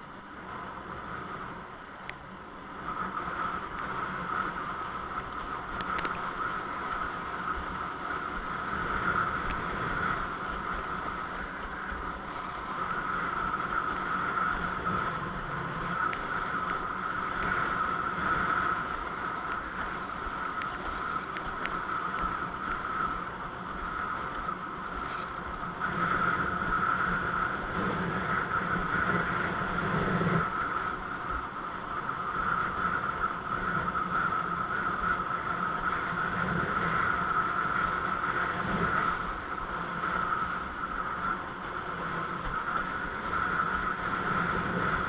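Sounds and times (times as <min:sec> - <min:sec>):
steady high hum: 0:00.0 - 0:45.0
water rushing along board: 0:00.0 - 0:45.0
wind on microphone: 0:00.0 - 0:45.0.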